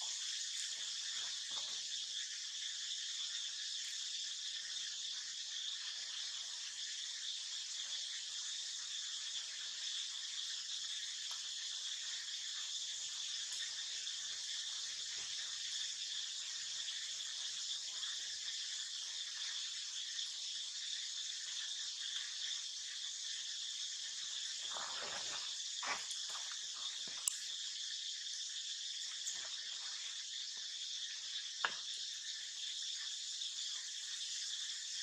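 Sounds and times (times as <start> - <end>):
insect chorus shrill drone: 0.0 - 35.0.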